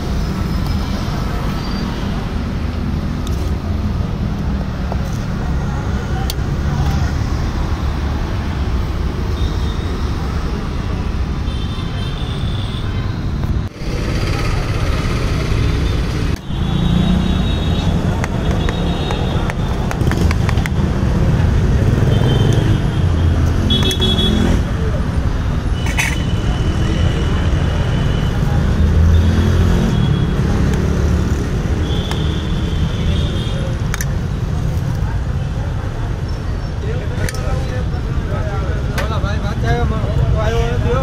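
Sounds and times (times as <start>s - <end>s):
roadside traffic rumble: 0.0s - 41.0s.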